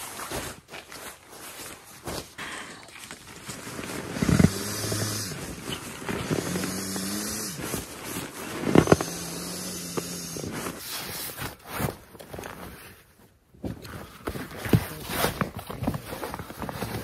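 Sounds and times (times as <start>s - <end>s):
tent nylon rustling and crinkling: 0.0s - 17.0s.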